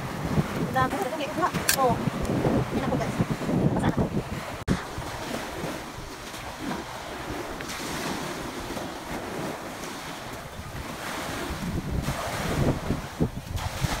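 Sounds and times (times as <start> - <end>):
small waves breaking on sand: 0.0 - 14.0
wind buffeting the microphone: 0.0 - 14.0.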